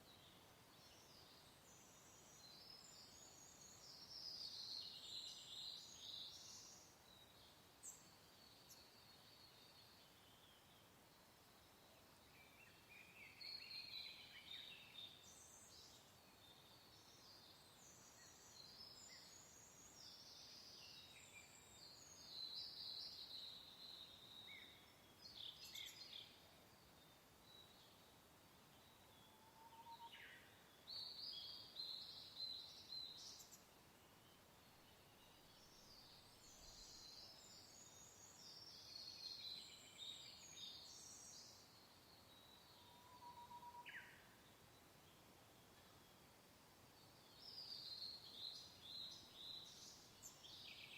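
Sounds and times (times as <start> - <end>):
birds chirping and twittering: 0.0 - 50.9.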